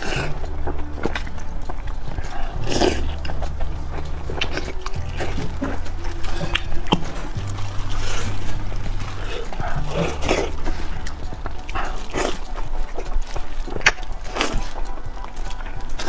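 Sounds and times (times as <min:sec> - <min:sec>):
low hum: 0:00.0 - 0:16.0
wet eating sounds: 0:00.0 - 0:16.0.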